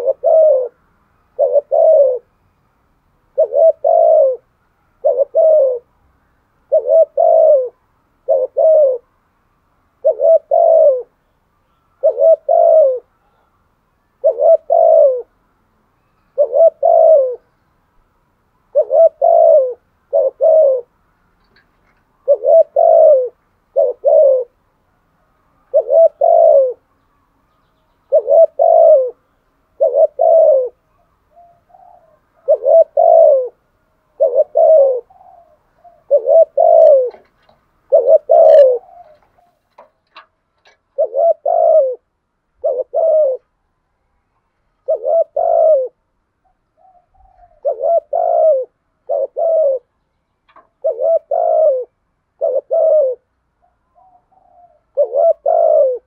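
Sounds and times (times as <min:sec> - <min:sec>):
dove cooing: 0:00.0 - 0:02.4, 0:03.3 - 0:06.0, 0:06.6 - 0:09.1, 0:10.0 - 0:13.6, 0:14.2 - 0:15.4, 0:16.0 - 0:17.6, 0:18.7 - 0:24.6, 0:25.2 - 0:43.6, 0:44.8 - 0:56.0.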